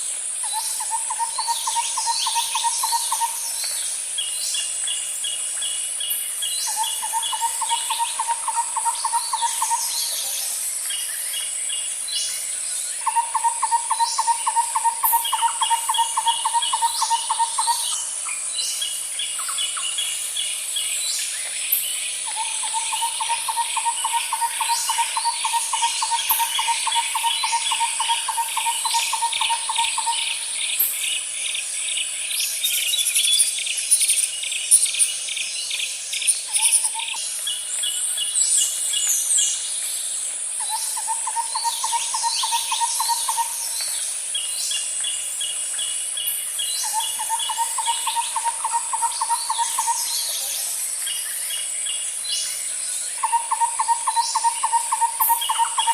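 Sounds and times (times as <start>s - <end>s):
pulsed insect chirping: 0.3s - 11.5s, 12.9s - 20.9s, 21.6s - 55.9s.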